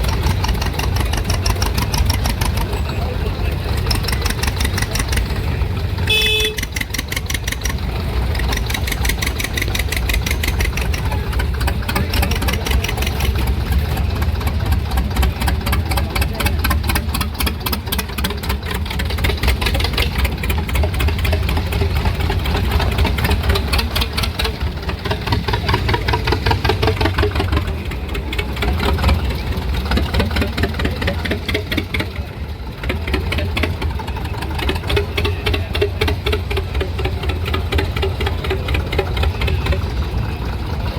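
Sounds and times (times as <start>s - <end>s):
old engine running: 0.0s - 40.9s.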